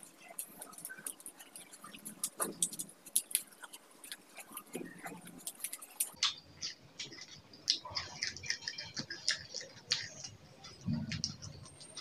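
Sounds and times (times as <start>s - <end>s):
crunchy chewing: 0.0s - 12.0s
wet mouth clicks: 0.4s - 12.0s.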